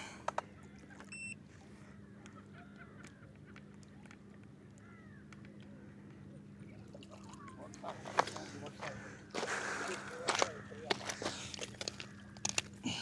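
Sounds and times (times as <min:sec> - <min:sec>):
distant birds calling: 0:01.8 - 0:13.0.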